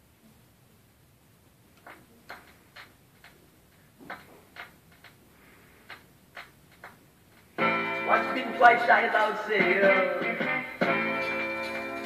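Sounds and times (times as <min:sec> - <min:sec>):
vinyl surface hiss: 0:00.0 - 0:12.0
vinyl record pops and crackles: 0:01.7 - 0:05.2, 0:05.8 - 0:12.0.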